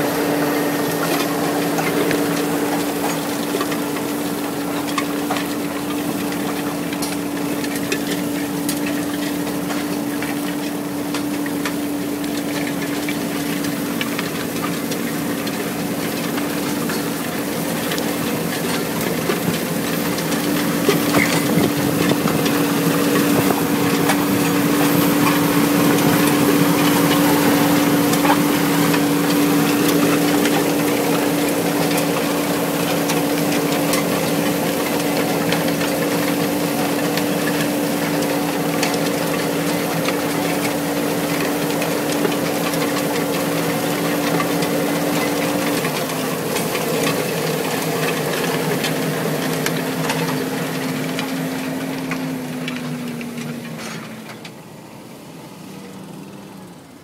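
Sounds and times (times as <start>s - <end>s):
soil and straw rushing: 0.0s - 54.4s
tractor engine and machinery hum: 0.0s - 57.0s.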